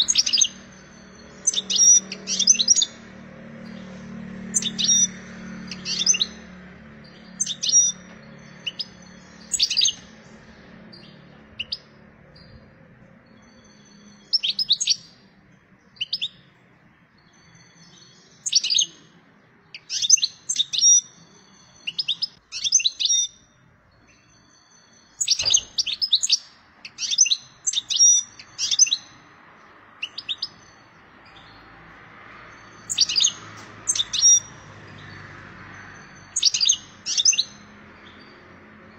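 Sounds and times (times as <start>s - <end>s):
goldfinch twittering song: 0.0s - 38.9s.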